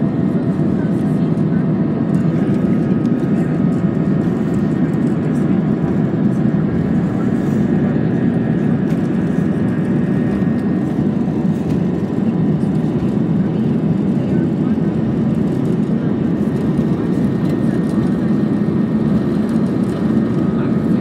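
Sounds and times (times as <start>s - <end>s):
jet engines and airflow rushing: 0.0s - 21.0s.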